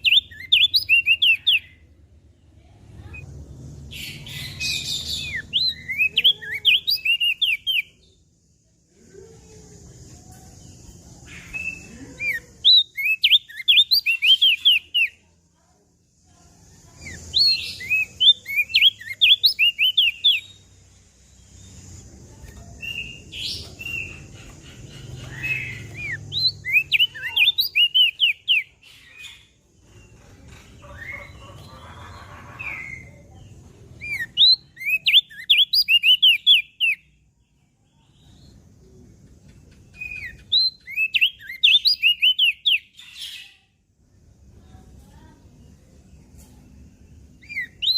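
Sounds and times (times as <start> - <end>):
bird chirping: 0.0 - 43.8, 44.5 - 47.9.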